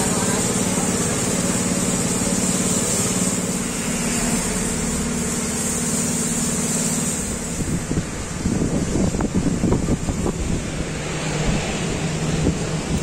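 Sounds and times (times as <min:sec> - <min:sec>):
pressure washer motor hum: 0:00.0 - 0:13.0
water jet hissing and splashing: 0:00.0 - 0:13.0.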